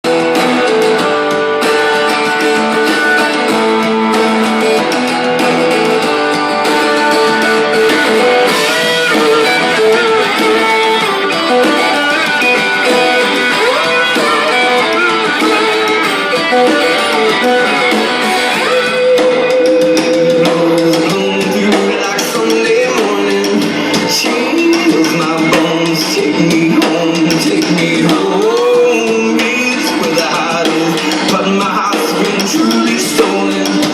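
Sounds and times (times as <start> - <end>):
guitar plucked and strummed: 0.0 - 33.9.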